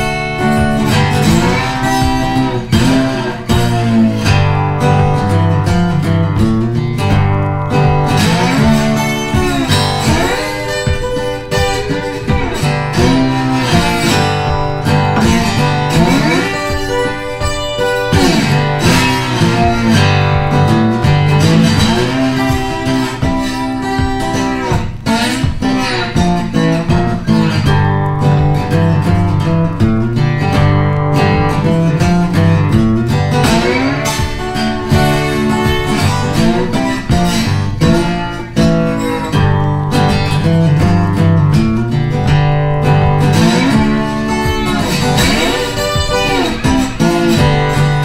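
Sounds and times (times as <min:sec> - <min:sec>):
plucked acoustic guitar music: 0:00.0 - 0:48.0.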